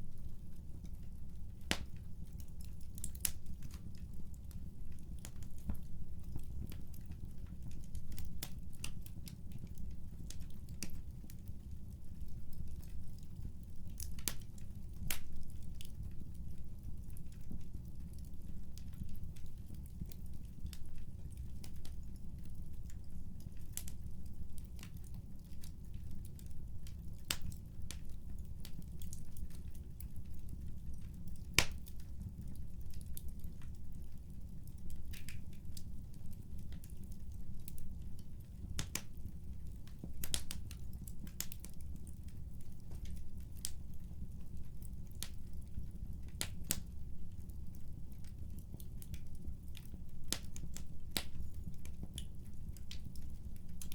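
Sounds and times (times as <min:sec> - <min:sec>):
fire crackling pops: 0:00.2 - 0:53.9.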